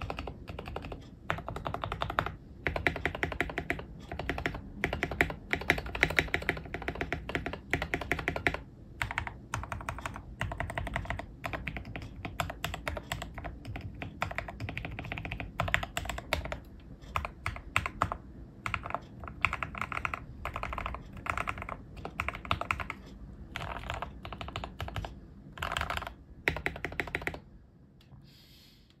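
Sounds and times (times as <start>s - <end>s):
keyboard typing: 0.0s - 27.5s.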